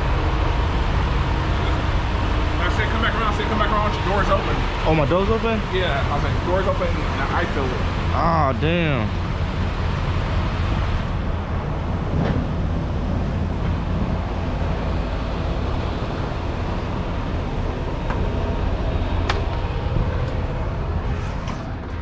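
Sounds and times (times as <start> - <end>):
diesel truck engine rumble: 0.0 - 22.0.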